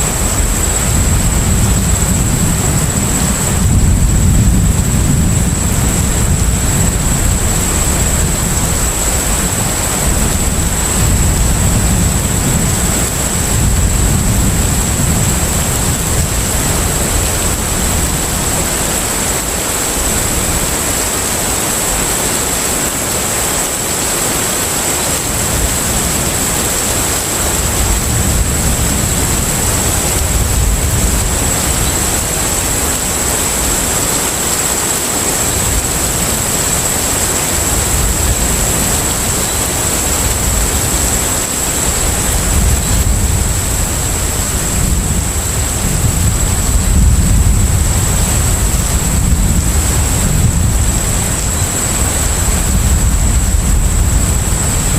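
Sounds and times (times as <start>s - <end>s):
wind and water rushing: 0.0s - 54.9s.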